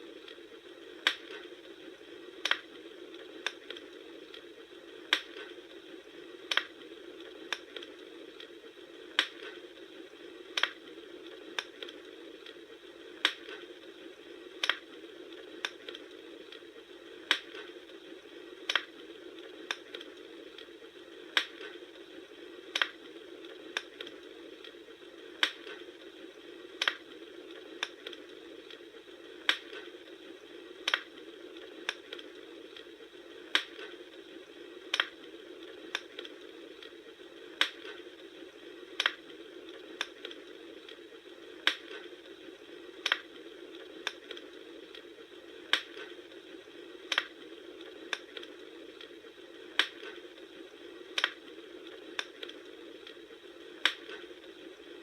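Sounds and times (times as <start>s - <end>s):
bonfire crackling: 0.0s - 55.0s.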